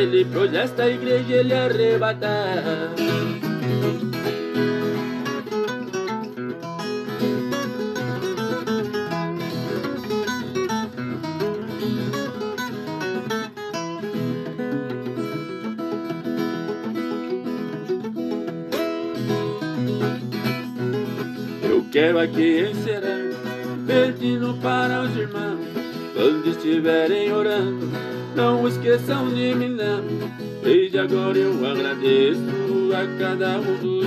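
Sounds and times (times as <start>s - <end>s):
plucked and strummed guitar: 0.0s - 34.0s.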